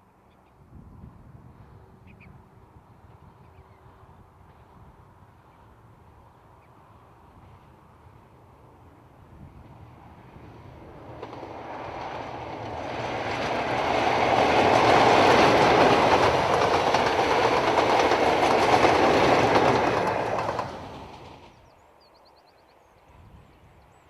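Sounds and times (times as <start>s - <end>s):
diesel train passing at speed: 1.2s - 22.3s.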